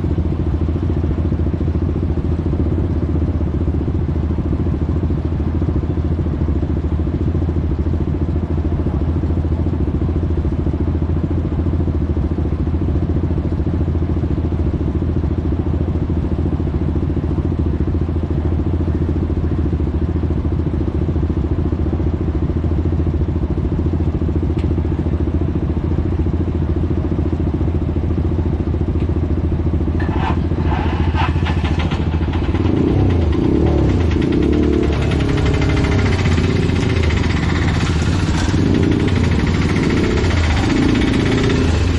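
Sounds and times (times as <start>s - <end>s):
motorcycle engine and road rumble: 0.0s - 41.9s.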